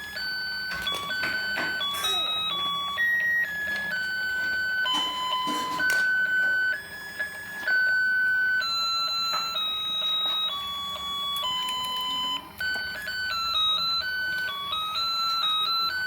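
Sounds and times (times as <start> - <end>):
electronic toy beeping tune: 0.0 - 16.0.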